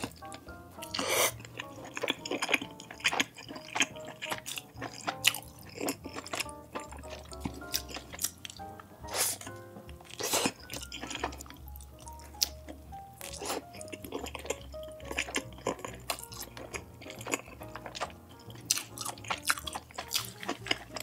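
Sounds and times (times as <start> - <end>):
close chewing with crunchy bites: 0.0 - 21.0
light background music: 0.0 - 21.0.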